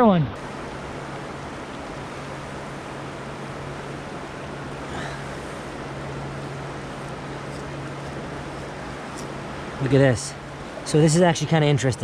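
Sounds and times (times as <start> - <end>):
low even hum: 0.0 - 12.0
river flowing over cobbles: 0.0 - 12.0.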